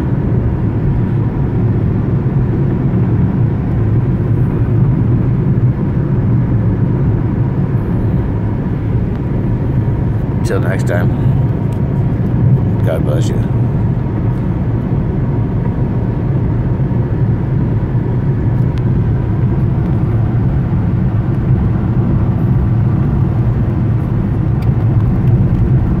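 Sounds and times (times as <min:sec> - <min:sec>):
car interior road drone: 0:00.0 - 0:26.0.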